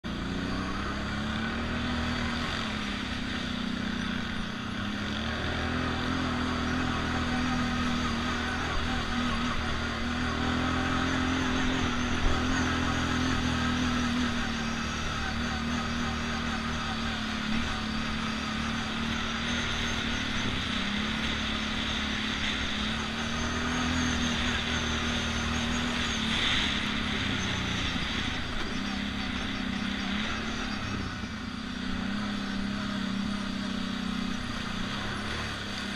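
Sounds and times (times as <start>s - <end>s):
atv engine revving: 0.0s - 35.9s
steady rushing noise: 0.0s - 35.9s
wind and tyres on dirt: 0.0s - 35.9s.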